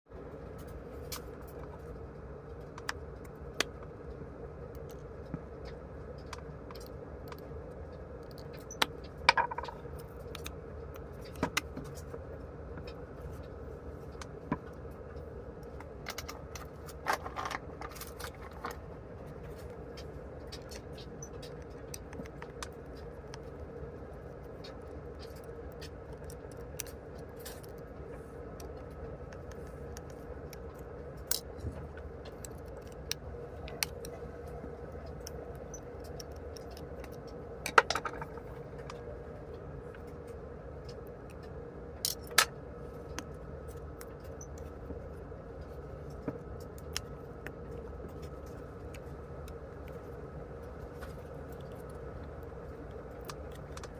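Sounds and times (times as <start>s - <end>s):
steady low hum: 0.1s - 53.9s.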